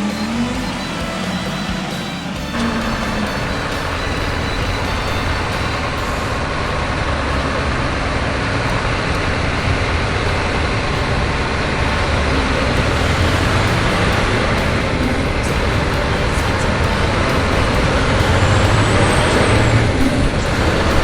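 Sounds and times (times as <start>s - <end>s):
vehicle running: 0.0s - 21.0s.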